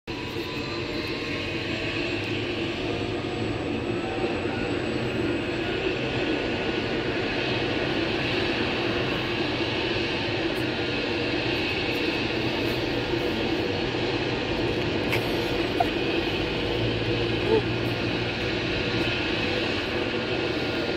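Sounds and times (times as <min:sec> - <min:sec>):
helicopter engine and rotor drone: 0:00.1 - 0:20.9.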